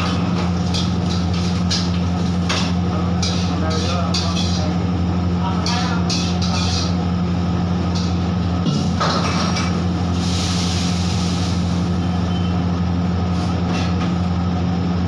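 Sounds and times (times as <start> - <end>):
electric fan motor hum: 0.0 - 15.0.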